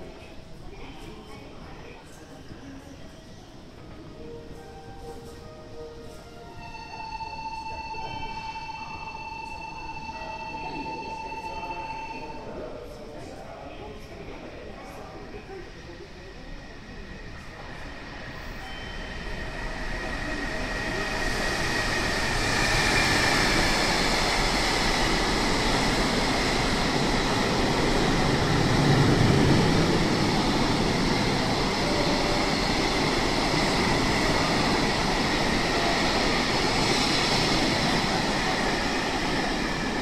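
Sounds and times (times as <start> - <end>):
freight train passing: 0.0 - 40.0.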